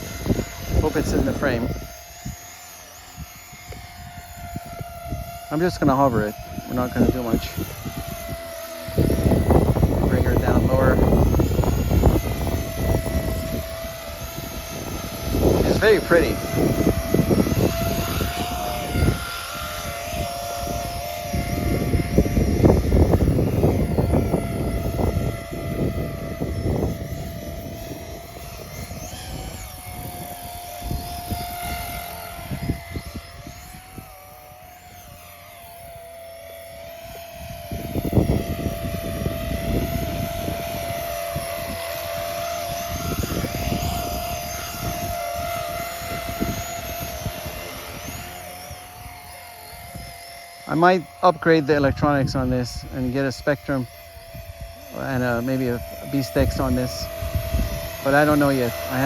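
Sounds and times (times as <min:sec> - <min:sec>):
wind rumbling on microphone: 0:00.0 - 0:36.1, 0:36.7 - 0:59.0
rc helicopter whine: 0:00.0 - 0:59.0.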